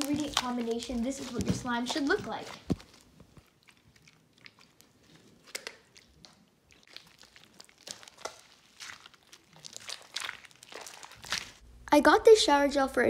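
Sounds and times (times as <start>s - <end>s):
slime squelching by hand: 0.0s - 11.6s.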